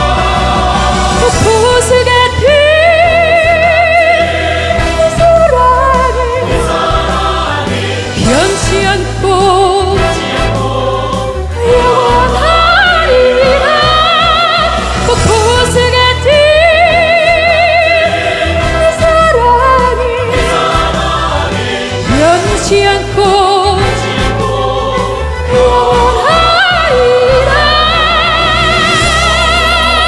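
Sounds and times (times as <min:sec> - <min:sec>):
operatic singing: 0:00.0 - 0:30.0
recorded accompaniment with bass: 0:00.0 - 0:30.0.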